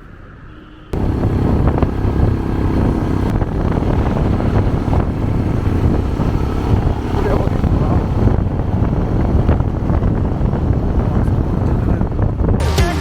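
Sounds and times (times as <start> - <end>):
motorcycle engine rumbling: 1.0 - 13.0
wind buffeting microphone: 1.0 - 13.0.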